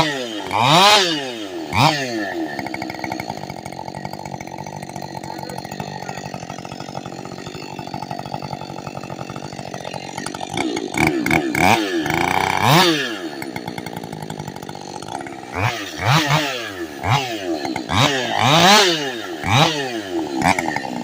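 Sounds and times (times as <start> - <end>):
chainsaw idling and revving: 0.0 - 21.0.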